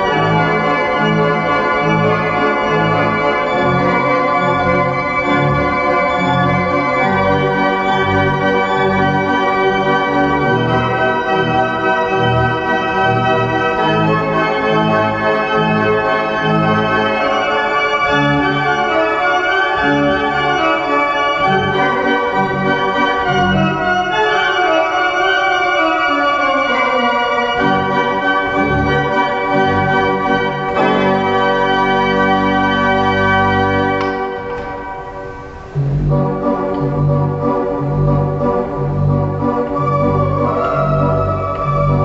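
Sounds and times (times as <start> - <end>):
slow gentle organ piece: 0.0 - 42.0.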